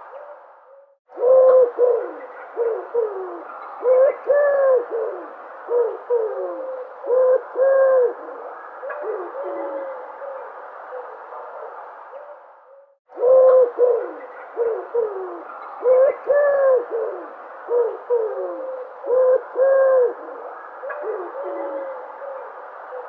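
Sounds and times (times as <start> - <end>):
dove cooing: 0.0 - 23.0
steady background hiss: 0.0 - 23.0.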